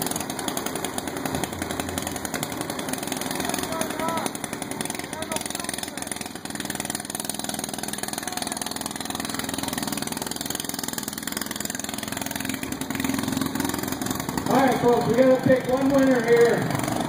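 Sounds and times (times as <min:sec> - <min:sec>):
lawn mower engines idling: 0:00.0 - 0:17.0.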